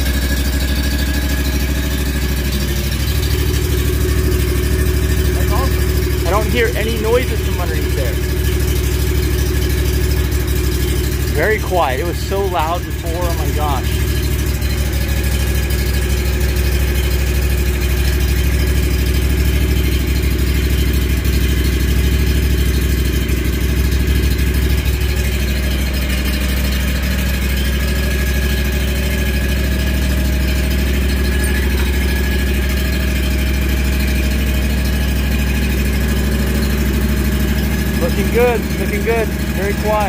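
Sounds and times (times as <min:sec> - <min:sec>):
mower engine running: 0:00.0 - 0:40.0.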